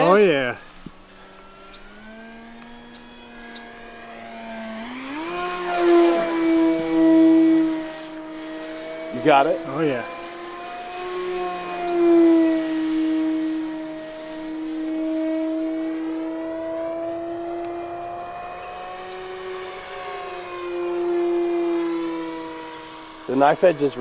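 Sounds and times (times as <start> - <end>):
rc airplane motor whine: 0.0 - 24.0.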